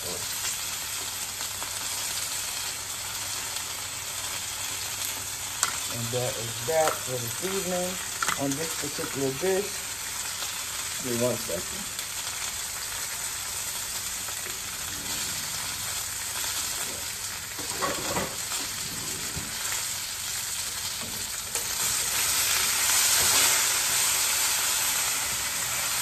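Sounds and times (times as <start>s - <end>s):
potatoes and onion sizzling: 0.0s - 26.0s.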